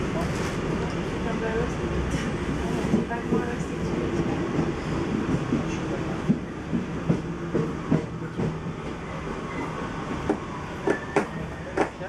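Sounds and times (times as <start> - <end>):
train rumbling with hum: 0.0 - 12.0.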